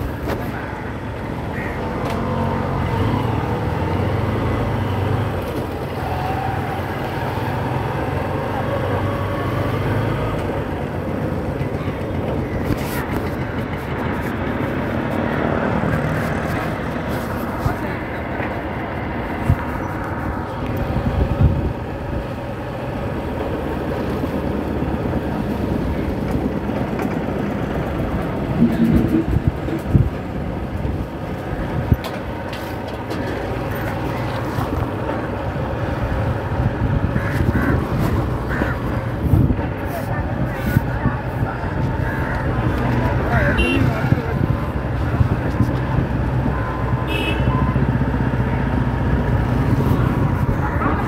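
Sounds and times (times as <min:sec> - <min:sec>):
road noise: 0:00.0 - 0:51.0.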